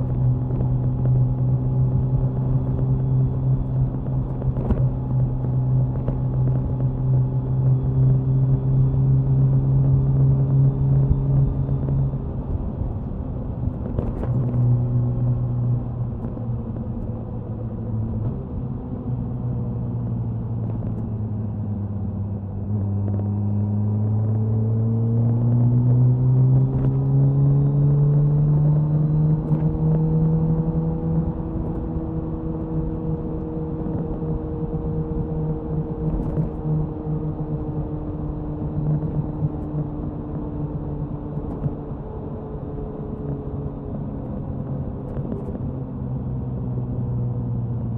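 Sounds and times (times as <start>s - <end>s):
motorcycle engine and exhaust cruising: 0.0s - 47.9s.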